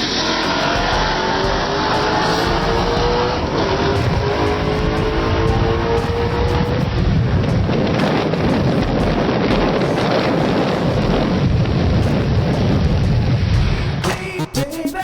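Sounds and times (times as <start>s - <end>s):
car engine rumbling: 0.0s - 14.0s
wind buffeting microphone: 0.0s - 14.0s.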